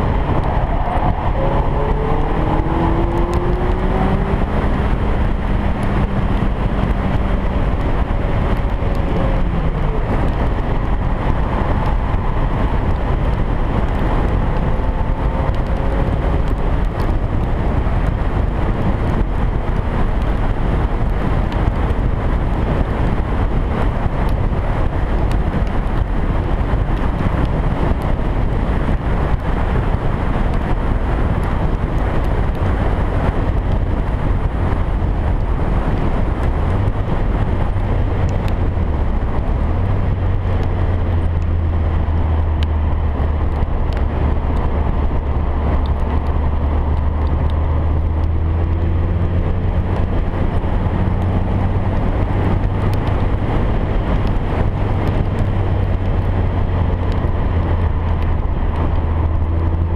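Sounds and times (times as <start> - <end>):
car engine at speed: 0.0 - 59.9
wind rush on microphone: 0.0 - 59.9.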